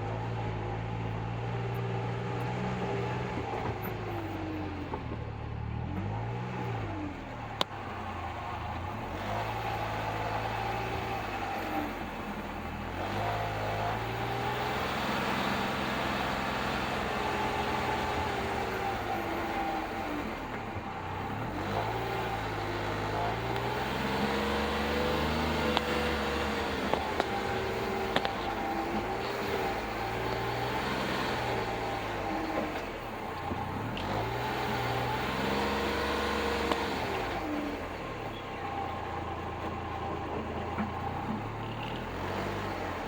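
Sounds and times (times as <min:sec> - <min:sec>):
utility vehicle engine revving: 0:00.0 - 0:43.0.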